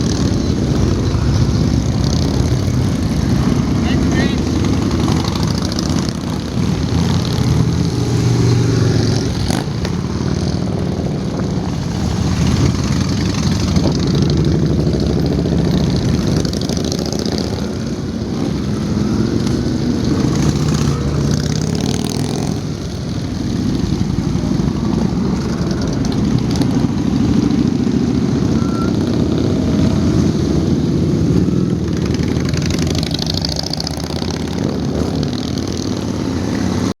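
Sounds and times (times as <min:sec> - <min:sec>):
motorcycle engines rumbling: 0:00.0 - 0:37.0.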